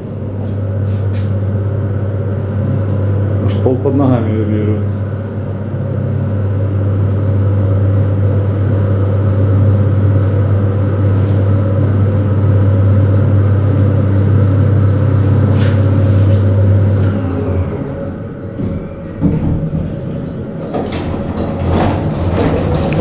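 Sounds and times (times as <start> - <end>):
elevator motor humming: 0.0 - 23.0.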